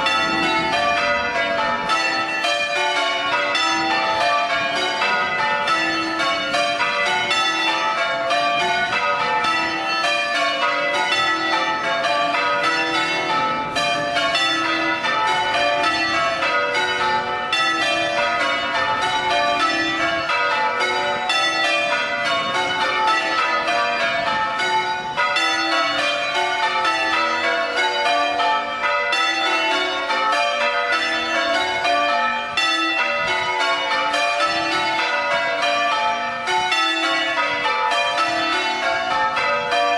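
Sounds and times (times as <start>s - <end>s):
church bells change ringing: 0.0s - 39.9s.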